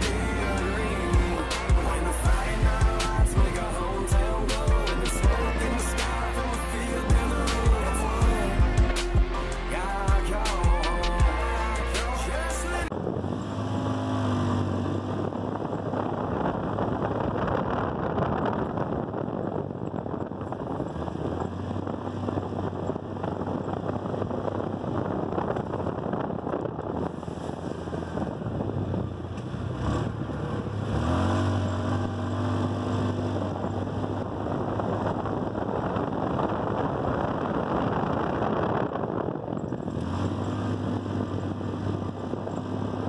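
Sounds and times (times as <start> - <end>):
vehicle engine running: 0.0 - 43.0
wind on microphone: 0.0 - 43.0.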